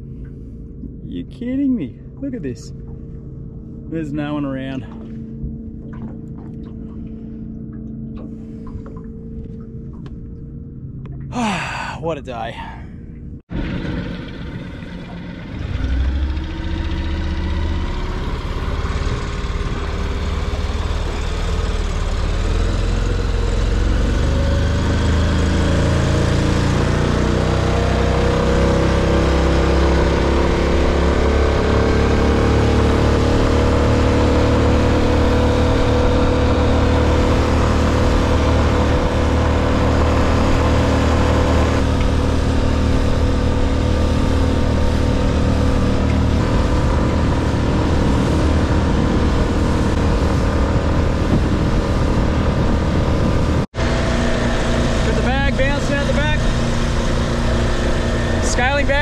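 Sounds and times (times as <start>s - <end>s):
outboard motor revving: 1.5s - 12.2s, 13.5s - 59.0s.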